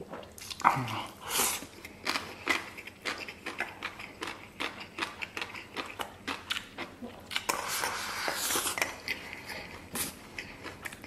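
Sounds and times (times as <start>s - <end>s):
chewing with wet smacking: 0.2s - 11.0s.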